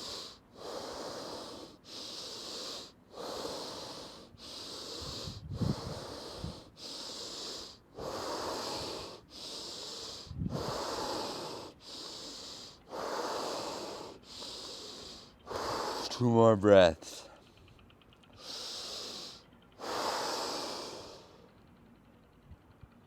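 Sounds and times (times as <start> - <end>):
man breathing forcefully: 0.0 - 16.3, 18.3 - 21.8.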